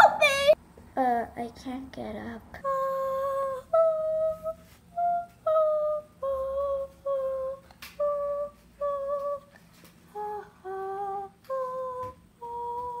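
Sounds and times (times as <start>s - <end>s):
high voice humming: 0.0s - 0.6s, 2.6s - 9.5s, 10.1s - 13.0s.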